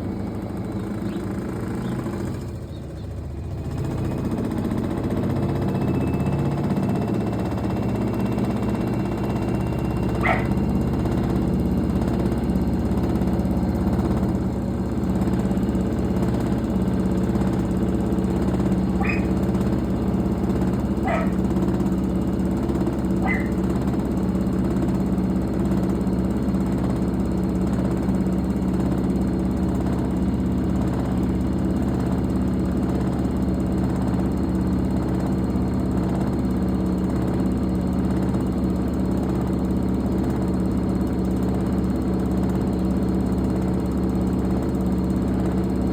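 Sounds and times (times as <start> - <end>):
washing machine humming: 0.0 - 37.2.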